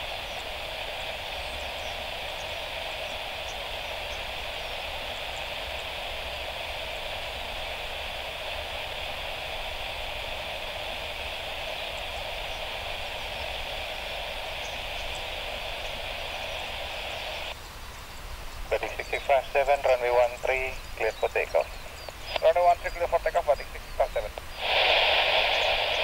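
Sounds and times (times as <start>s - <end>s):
distant jet engines idling: 0.0s - 26.0s.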